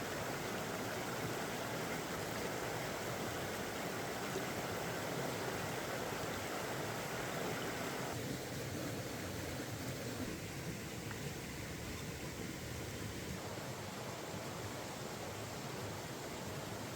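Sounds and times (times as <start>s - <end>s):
mountain stream rushing: 0.0s - 16.9s.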